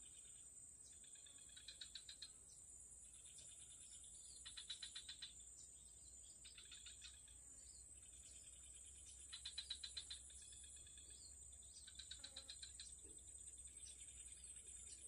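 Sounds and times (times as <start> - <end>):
rapid insect chirps: 0.0 - 15.0.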